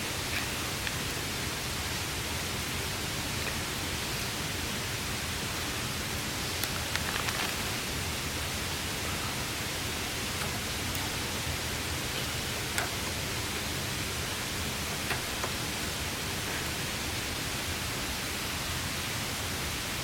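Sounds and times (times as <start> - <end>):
rain falling on a tarp: 0.0 - 20.0
campfire crackles: 0.1 - 17.2.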